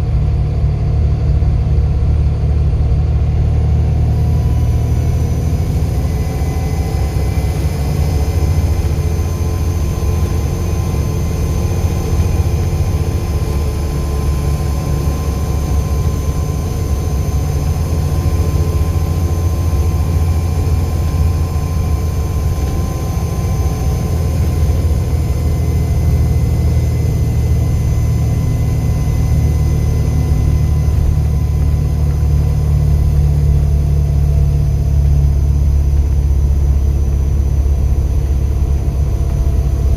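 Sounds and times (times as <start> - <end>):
bus diesel engine rumbling: 0.0 - 39.9
faint high whine: 0.0 - 39.9.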